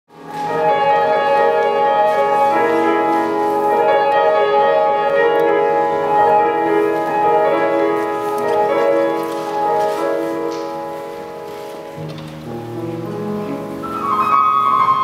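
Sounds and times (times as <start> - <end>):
grand piano playing: 0.1 - 15.0.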